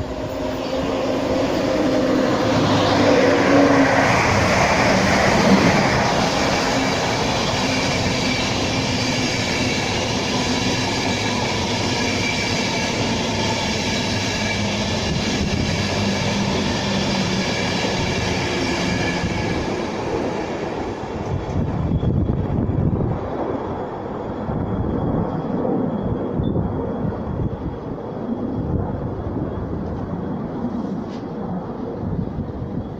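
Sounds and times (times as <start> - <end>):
train rail noise: 0.0 - 32.9
train whine: 0.0 - 32.9.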